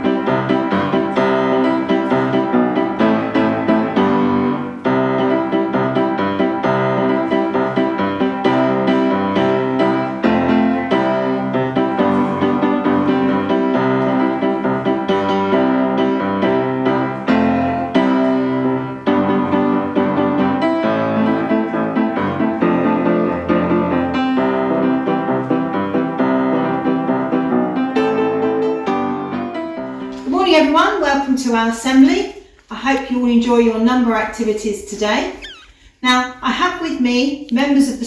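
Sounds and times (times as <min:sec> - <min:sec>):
piano music: 0:00.0 - 0:30.8.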